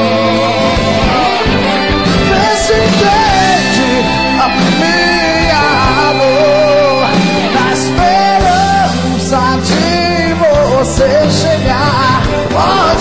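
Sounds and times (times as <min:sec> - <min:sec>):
band playing pop-rock song: 0:00.0 - 0:13.0.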